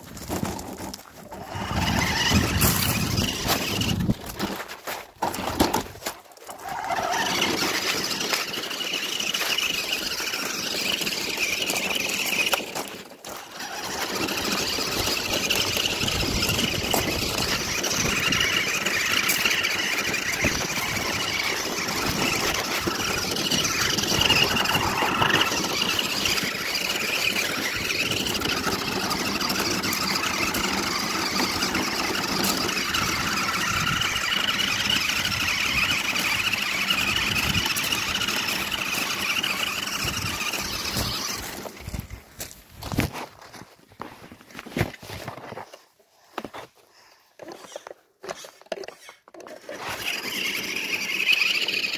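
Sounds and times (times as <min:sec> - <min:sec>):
wheels on gravel: 0:00.0 - 0:51.9
toy truck motor whining: 0:00.2 - 0:04.7, 0:05.3 - 0:42.2, 0:46.3 - 0:51.9.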